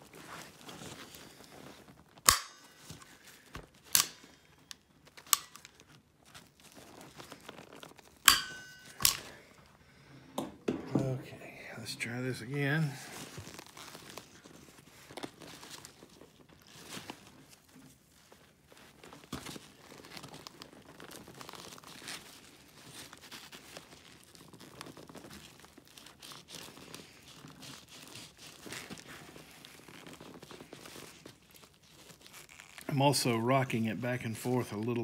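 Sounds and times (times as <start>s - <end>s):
nylon fabric rustling: 0.0s - 10.1s, 12.0s - 35.0s.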